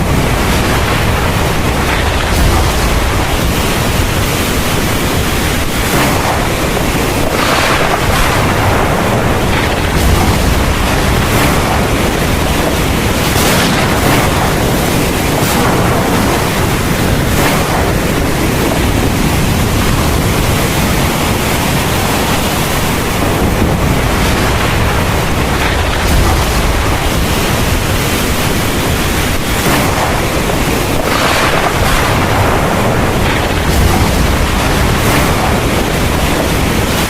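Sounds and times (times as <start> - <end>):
heavy rain pouring: 0.0 - 37.0
low rumble: 0.0 - 37.0.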